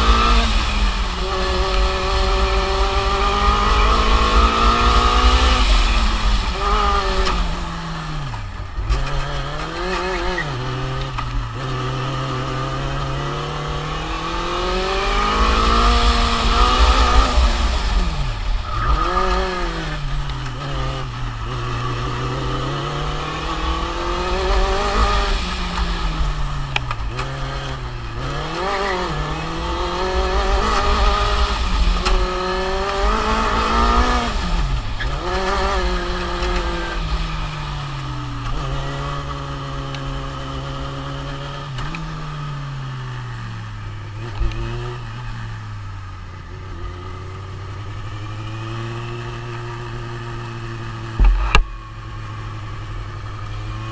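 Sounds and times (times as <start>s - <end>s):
race car engine revving: 0.0s - 43.4s.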